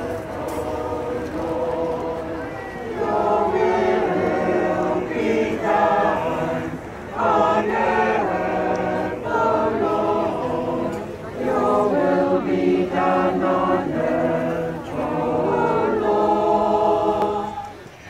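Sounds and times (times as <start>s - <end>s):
church choir singing: 0.0s - 17.9s.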